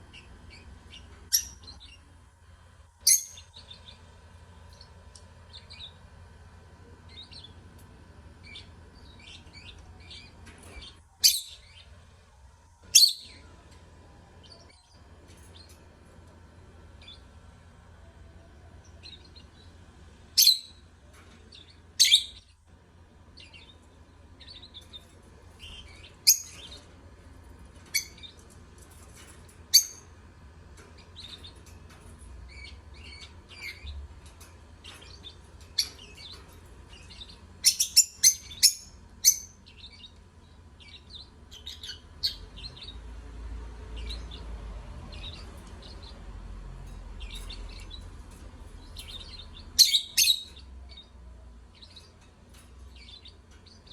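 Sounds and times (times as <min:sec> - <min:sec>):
lovebirds chirping: 0:00.0 - 0:53.9
soft bird chatter: 0:00.0 - 0:53.9.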